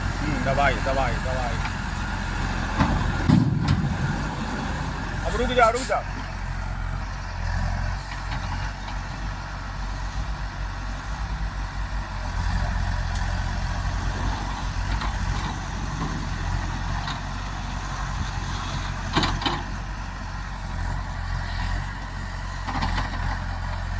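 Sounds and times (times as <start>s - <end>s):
diesel engine running at low revs: 0.0s - 23.9s.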